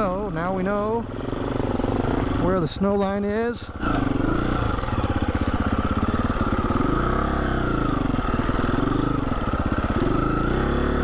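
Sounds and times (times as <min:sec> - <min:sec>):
dirt bike engine revving: 0:00.9 - 0:11.0.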